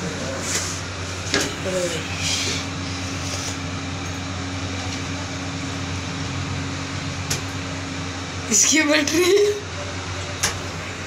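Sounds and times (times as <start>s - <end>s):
lift machinery hum: 0.0s - 11.0s.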